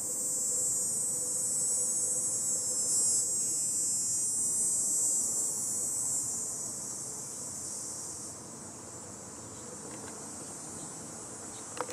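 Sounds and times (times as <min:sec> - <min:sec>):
cicadas buzzing: 0:00.0 - 0:11.9.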